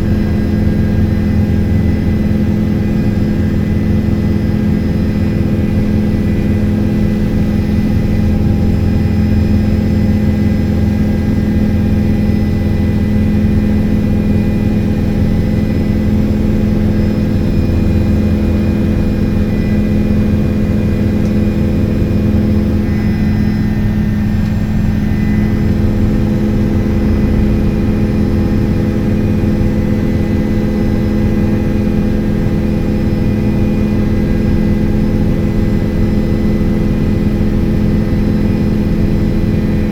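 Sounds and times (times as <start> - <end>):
helicopter engine and rotor drone: 0.0 - 39.9
faint high whining tones: 1.4 - 37.2.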